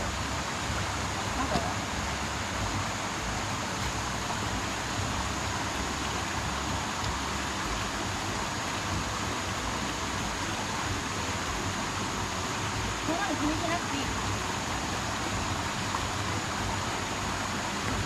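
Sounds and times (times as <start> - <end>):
stream rushing over boulders: 0.0 - 18.0.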